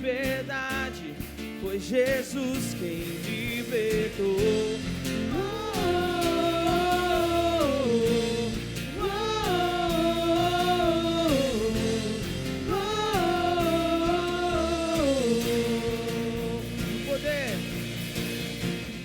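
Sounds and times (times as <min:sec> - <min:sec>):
person singing wordless melody: 0:00.0 - 0:17.6
worship band playing: 0:01.0 - 0:19.0.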